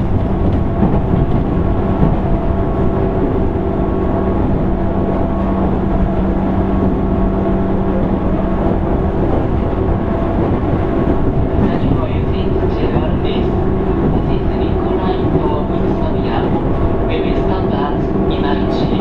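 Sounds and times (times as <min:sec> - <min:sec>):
electric train motor hum: 0:00.0 - 0:19.0
wheels rumbling on track: 0:00.0 - 0:19.0.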